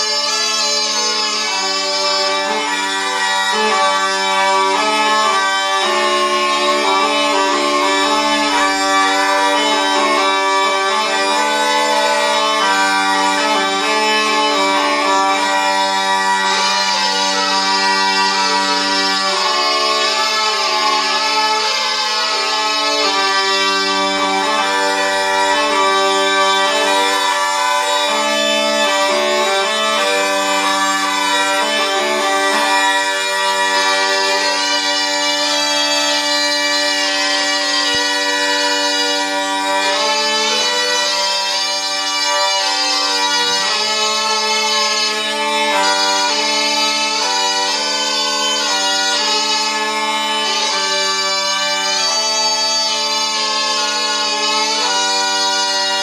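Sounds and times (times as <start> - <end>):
bagpipe melody over drones: 0.0 - 56.0.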